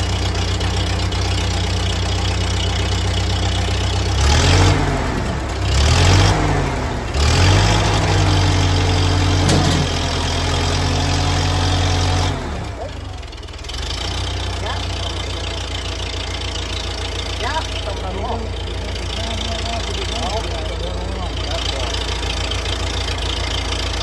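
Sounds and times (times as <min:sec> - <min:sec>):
petrol engine revving: 0:00.0 - 0:24.0.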